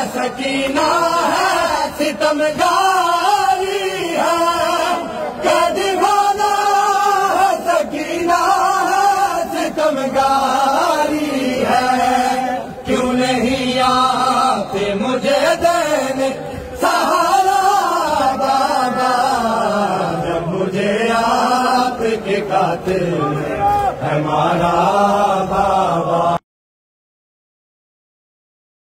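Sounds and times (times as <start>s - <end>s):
person chanting a lament: 0.0s - 26.4s.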